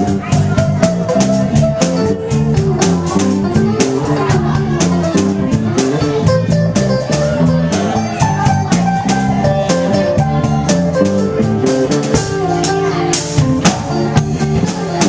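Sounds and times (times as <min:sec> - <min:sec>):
drum kit beat: 0:00.0 - 0:15.0
electric guitar: 0:00.0 - 0:15.0.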